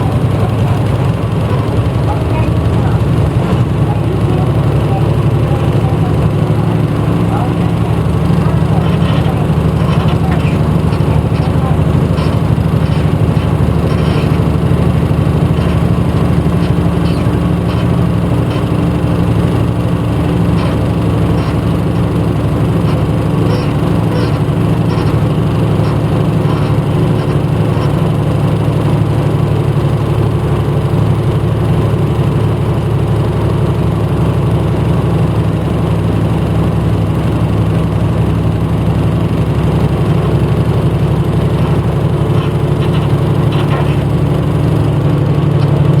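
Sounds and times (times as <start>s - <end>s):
bus engine droning: 0.0s - 46.0s
light ticking rattles: 0.0s - 46.0s.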